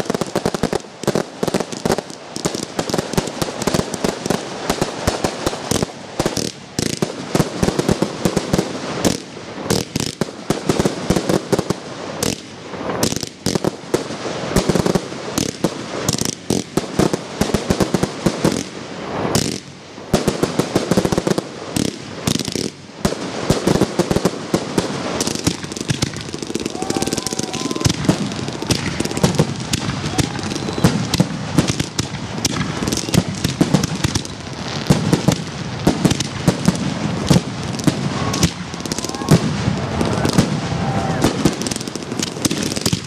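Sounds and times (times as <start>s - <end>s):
fireworks launching and banging: 0.0s - 43.0s.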